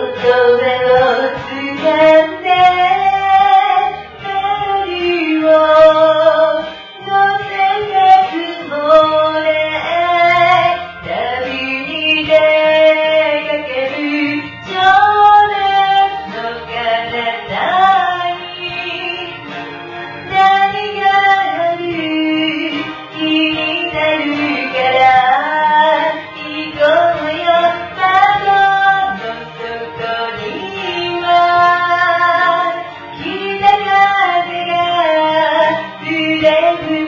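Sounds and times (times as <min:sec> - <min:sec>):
woman singing a ballad: 0:00.0 - 0:19.6, 0:20.2 - 0:37.0
karaoke backing track: 0:00.0 - 0:37.0.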